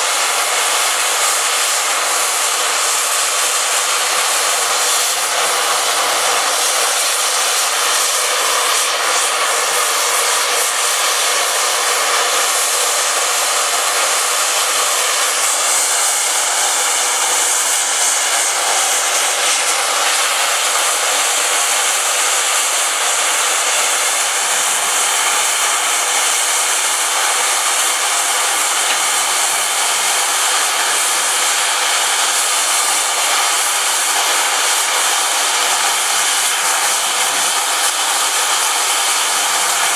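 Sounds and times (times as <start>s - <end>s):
steam hissing from safety valves: 0.0s - 39.9s.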